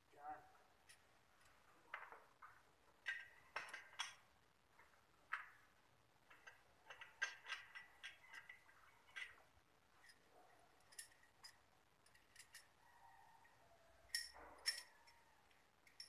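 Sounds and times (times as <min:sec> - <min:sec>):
light clicks and metallic clinks: 0:00.8 - 0:05.6, 0:06.2 - 0:16.0.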